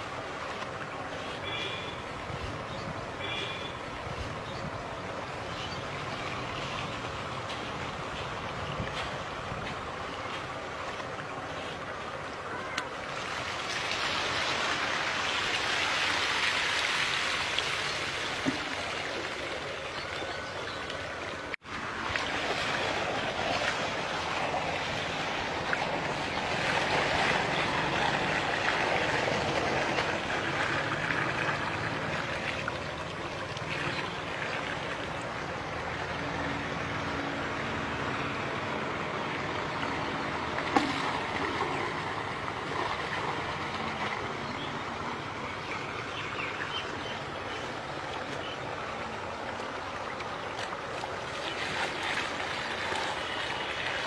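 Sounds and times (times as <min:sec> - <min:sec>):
water splashing and rushing: 0:00.0 - 0:54.0.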